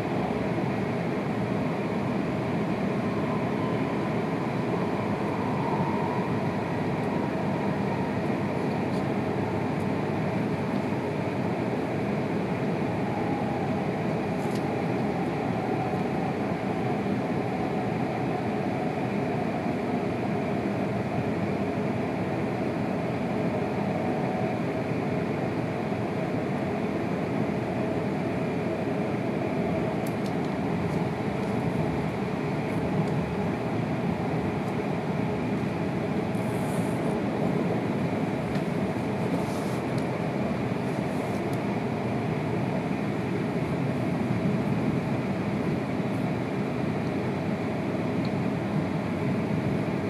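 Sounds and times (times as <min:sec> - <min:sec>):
air rushing past train: 0:00.0 - 0:50.0
train wheels rumbling on rail: 0:00.0 - 0:50.0.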